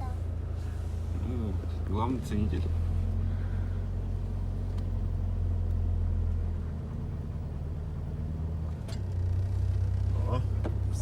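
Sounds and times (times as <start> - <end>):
engine drone from inside cabin: 0.0 - 11.0.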